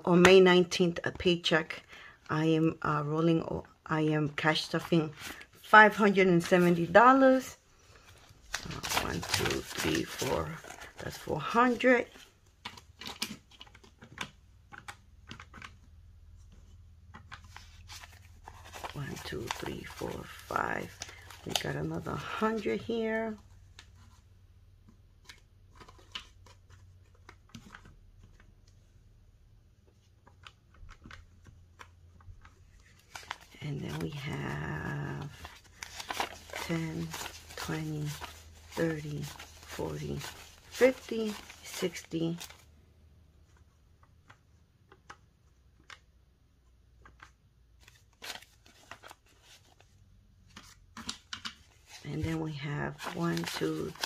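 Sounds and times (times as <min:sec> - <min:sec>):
banknotes rustling: 0:04.3 - 0:29.0, 0:29.9 - 0:42.7, 0:46.9 - 0:54.0.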